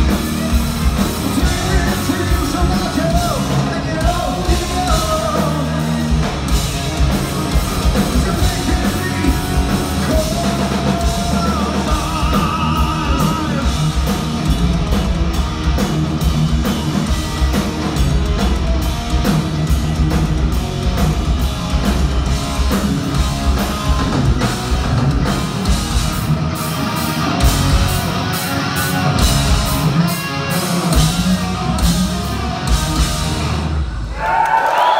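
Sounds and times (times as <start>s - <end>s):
drum kit: 0.0s - 34.0s
electric guitars: 0.0s - 34.6s.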